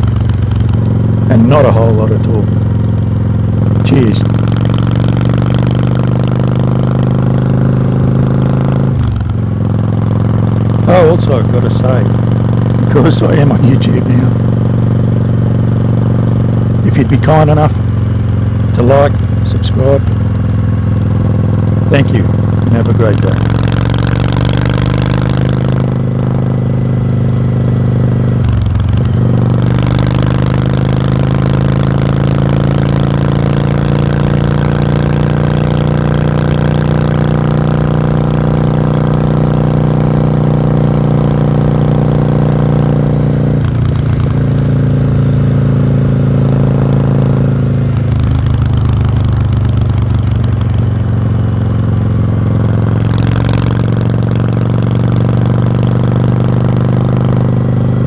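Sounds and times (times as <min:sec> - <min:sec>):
motorcycle exhaust while riding: 0:00.0 - 0:58.0.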